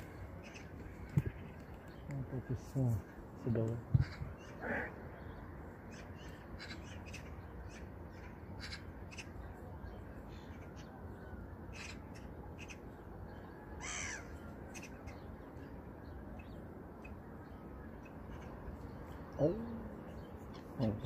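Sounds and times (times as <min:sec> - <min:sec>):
flock of birds calling: 0:00.0 - 0:09.6, 0:10.2 - 0:21.0.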